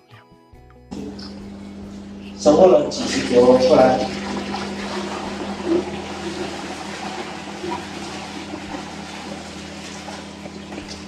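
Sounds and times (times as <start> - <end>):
low hum: 0.9 - 11.0
running water: 0.9 - 11.0.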